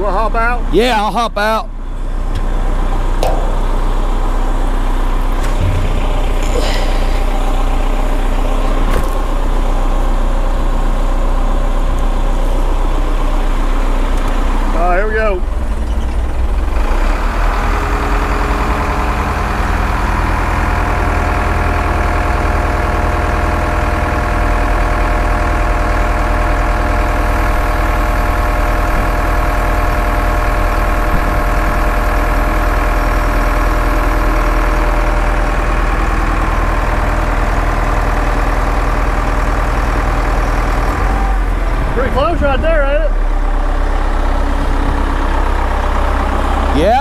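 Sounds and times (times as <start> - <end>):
diesel engine under load: 0.0 - 47.0.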